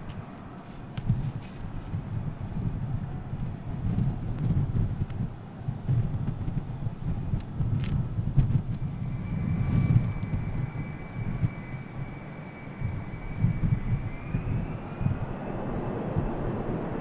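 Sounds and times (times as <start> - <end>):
jet engine high whine: 0.0 - 17.0
jet engine rumble: 0.0 - 17.0.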